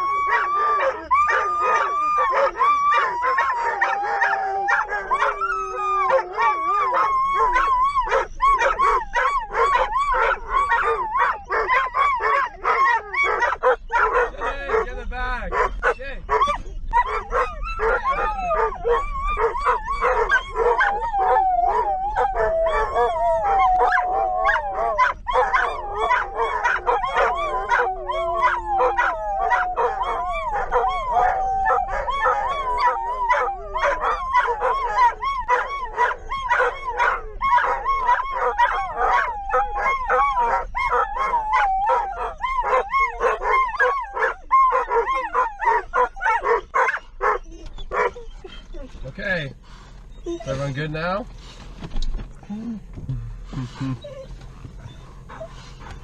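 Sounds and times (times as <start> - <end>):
dogs howling and whining: 0.0 - 51.7, 53.5 - 56.0.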